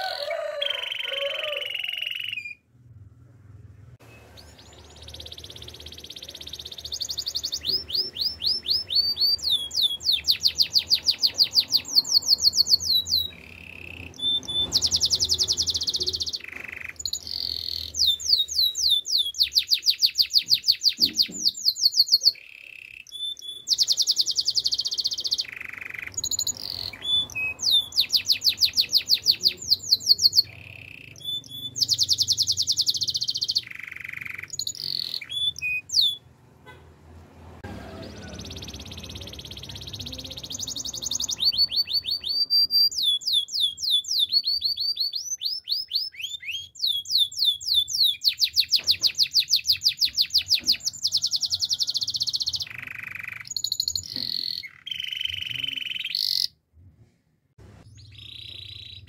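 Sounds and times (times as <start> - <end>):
canary singing trills: 0.0 - 2.7, 4.0 - 36.8, 37.9 - 56.6, 57.9 - 59.0.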